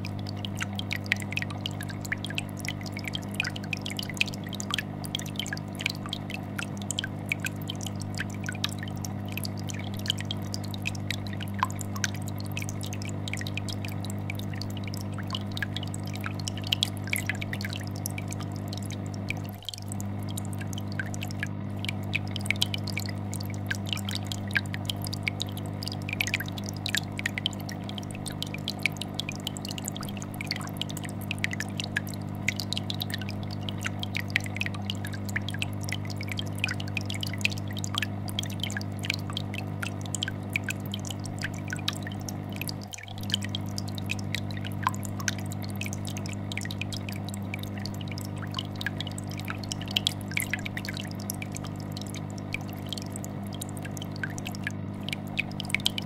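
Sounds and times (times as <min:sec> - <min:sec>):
air bubbles popping: 0:00.0 - 0:56.0
aquarium filter humming: 0:00.0 - 0:56.0.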